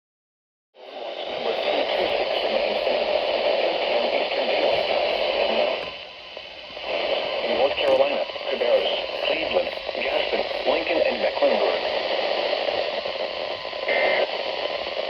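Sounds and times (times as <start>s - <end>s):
faint broadcast voice: 0.8s - 15.0s
radio static hiss: 0.8s - 15.0s.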